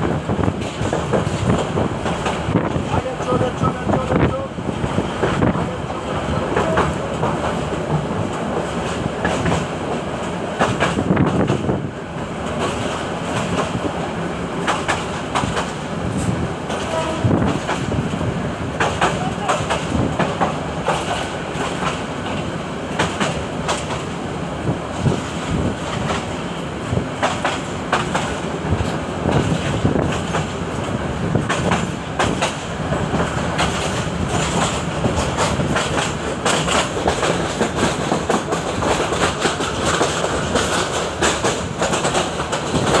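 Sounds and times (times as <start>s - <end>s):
train wheels rumbling on rail: 0.0s - 43.0s
wheels clicking over rail joints: 5.2s - 24.2s, 27.1s - 43.0s.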